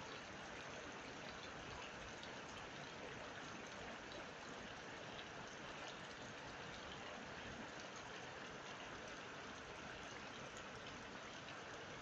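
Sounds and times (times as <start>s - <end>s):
rain falling on puddles: 0.0s - 12.0s.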